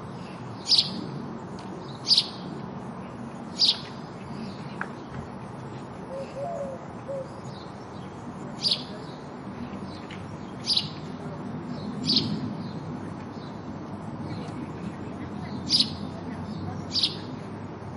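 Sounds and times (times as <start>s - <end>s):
low background noise: 0.0s - 17.9s
sparrows chirping: 0.0s - 17.9s.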